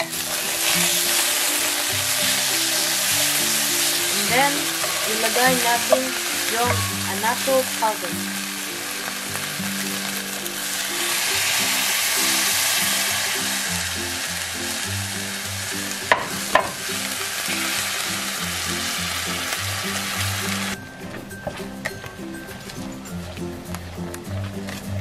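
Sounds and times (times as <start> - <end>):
sauce sizzling in a pan: 0.0 - 20.8
background music with bass line: 0.0 - 25.0.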